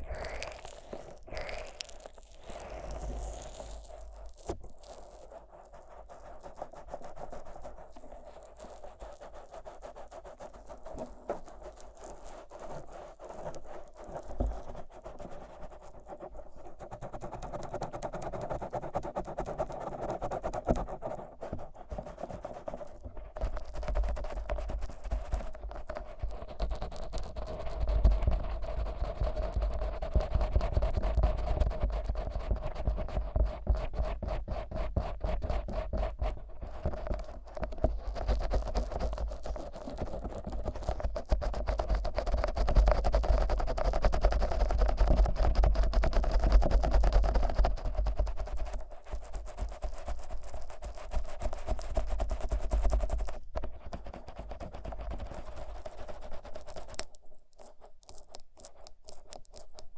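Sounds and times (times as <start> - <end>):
fingers rubbing microphone: 0.0 - 59.9.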